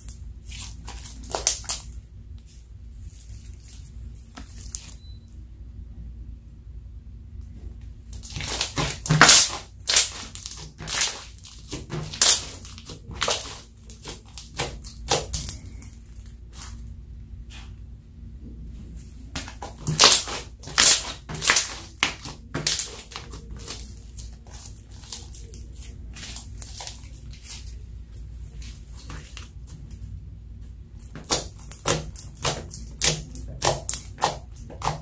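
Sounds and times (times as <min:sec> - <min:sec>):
slime squishing by hand: 0:00.0 - 0:05.2, 0:07.6 - 0:17.7, 0:18.7 - 0:35.0.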